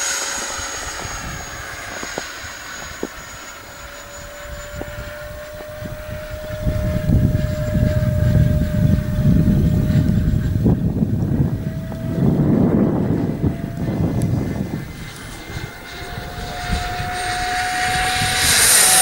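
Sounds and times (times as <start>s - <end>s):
model jet fan whine: 0.0s - 19.0s
wind buffeting microphone: 0.0s - 19.0s.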